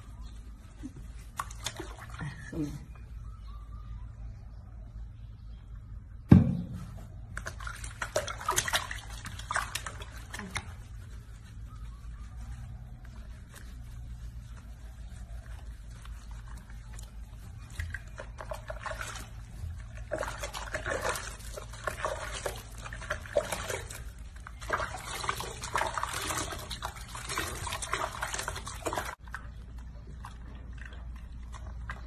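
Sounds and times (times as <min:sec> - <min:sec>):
bath water sloshing and splashing: 0:01.0 - 0:02.5, 0:07.0 - 0:11.7, 0:12.5 - 0:32.0.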